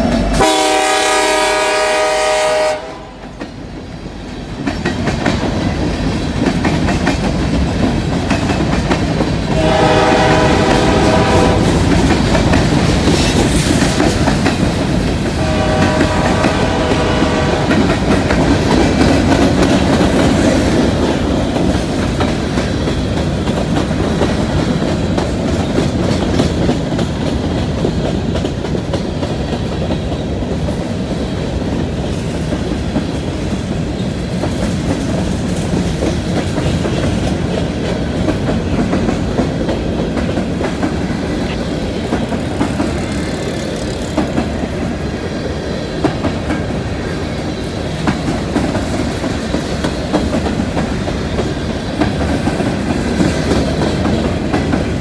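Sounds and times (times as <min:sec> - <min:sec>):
freight train rumbling past: 0:00.0 - 0:55.0
wheels clicking over rail joints: 0:03.3 - 0:55.0.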